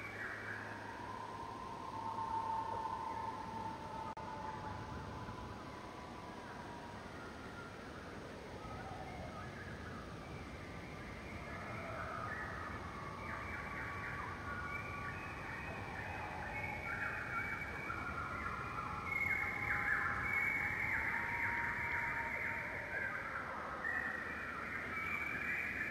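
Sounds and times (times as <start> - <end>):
birds chirping chorus: 0.0 - 25.9.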